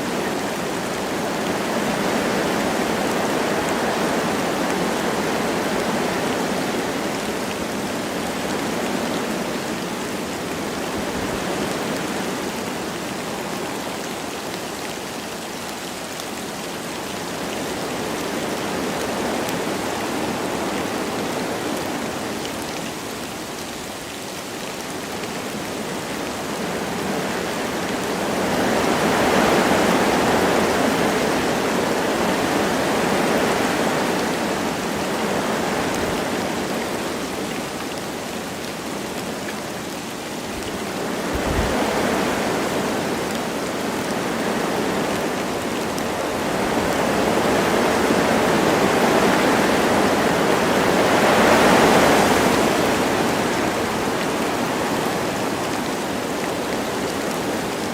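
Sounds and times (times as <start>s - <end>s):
light rain falling: 0.0s - 57.9s
wind gusting through trees: 0.0s - 57.9s.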